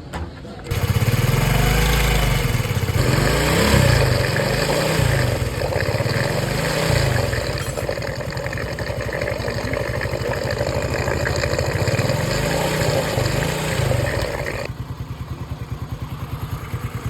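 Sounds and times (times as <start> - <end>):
motorcycle engine revving and idling: 0.6 - 17.0.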